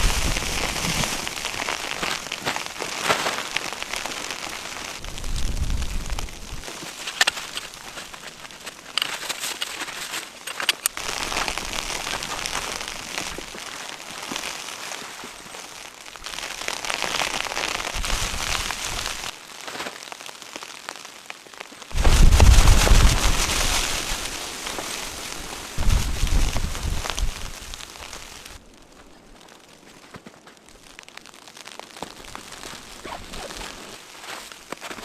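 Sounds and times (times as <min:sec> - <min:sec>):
snow hissing against tent fabric: 0:00.0 - 0:21.3, 0:21.9 - 0:28.6, 0:31.7 - 0:35.0.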